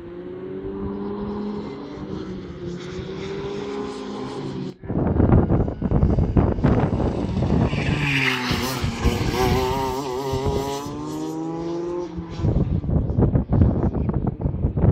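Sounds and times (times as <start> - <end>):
kart engine passing: 0.0 - 13.6.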